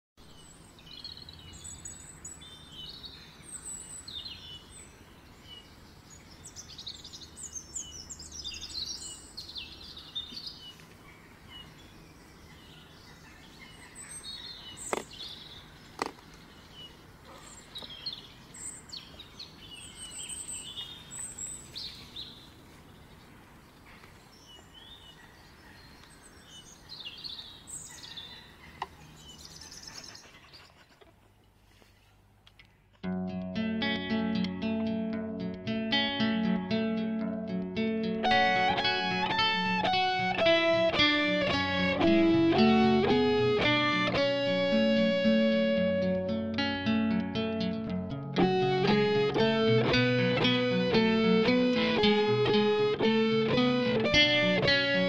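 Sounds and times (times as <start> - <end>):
birds chirping and trilling: 0.2 - 31.4, 37.8 - 55.0.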